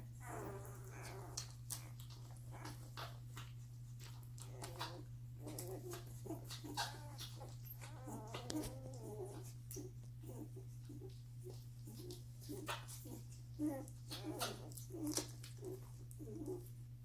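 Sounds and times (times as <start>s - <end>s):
puppies squeaking and whimpering: 0.0s - 16.8s
steady low hum: 0.0s - 17.0s.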